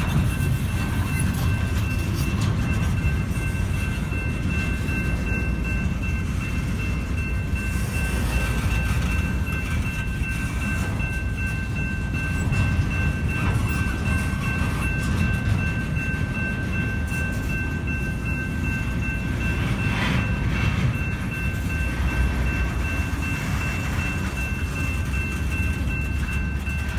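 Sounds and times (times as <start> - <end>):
steady high tones: 0.0 - 26.9
train rumble and wheel clatter: 0.0 - 26.9.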